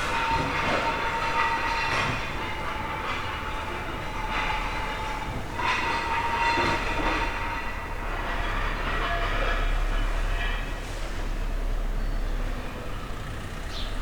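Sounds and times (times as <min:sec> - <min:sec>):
construction machinery running: 0:00.0 - 0:14.0.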